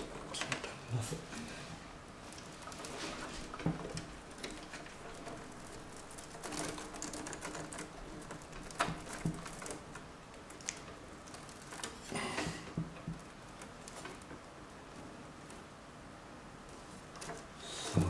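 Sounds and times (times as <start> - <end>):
cables rustling: 0.0 - 15.8.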